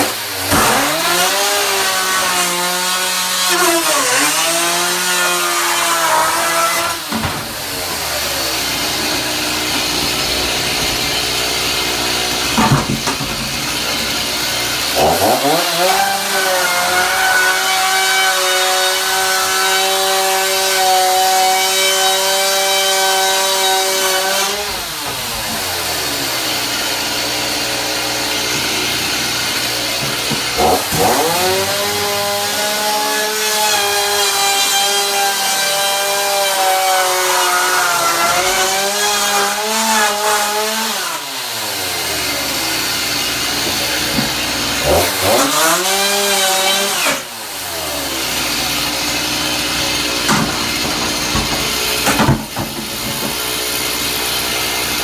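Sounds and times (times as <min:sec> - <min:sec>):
chainsaw revving while cutting: 0:00.0 - 0:55.0.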